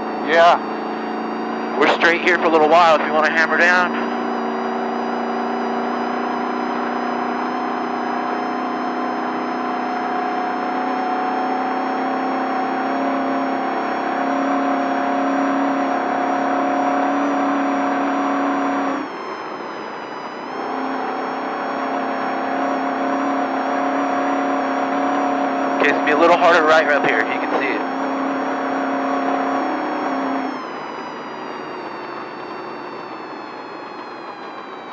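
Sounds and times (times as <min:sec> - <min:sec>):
truck engine at high revs: 0:00.0 - 0:34.9.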